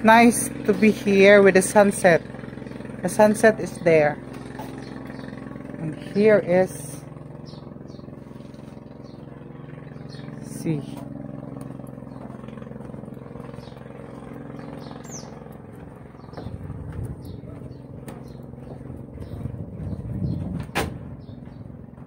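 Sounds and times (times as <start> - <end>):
boat engine droning: 0.0 - 22.0
low rumble: 3.8 - 22.0.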